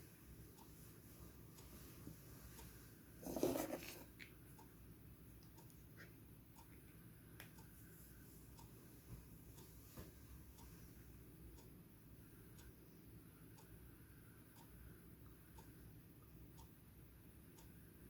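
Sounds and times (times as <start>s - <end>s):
faint regular ticking: 0.0s - 18.0s.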